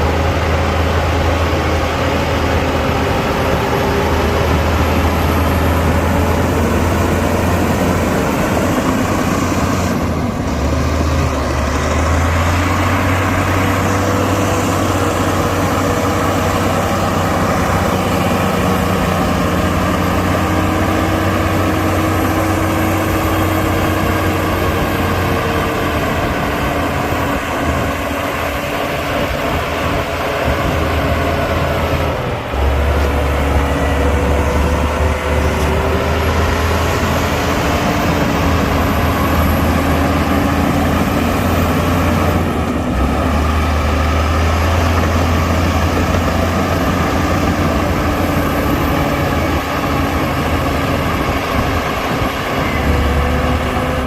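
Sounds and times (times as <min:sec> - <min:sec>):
heavy machinery diesel engine rumbling: 0:00.0 - 0:54.0.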